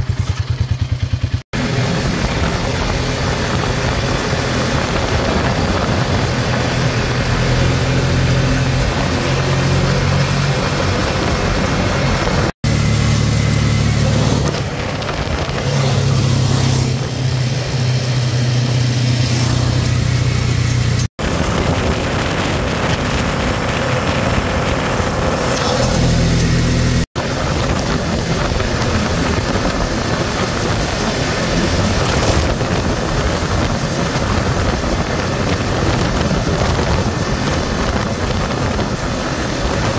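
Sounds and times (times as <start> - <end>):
atv engine running: 0.0 - 39.9
tyre noise on pavement: 0.0 - 39.9
wind rushing over microphone: 1.5 - 39.9.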